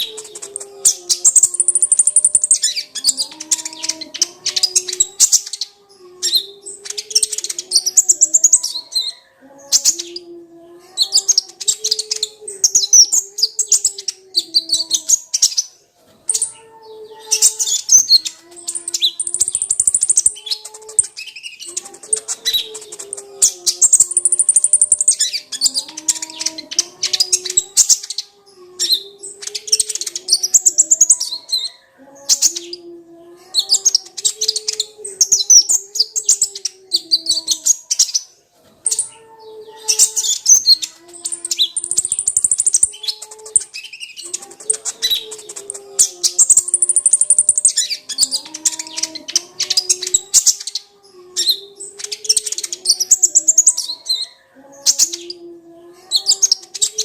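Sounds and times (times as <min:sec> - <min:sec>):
sunbird chattering song: 0:00.0 - 0:10.3, 0:11.0 - 0:32.8, 0:33.6 - 0:55.4.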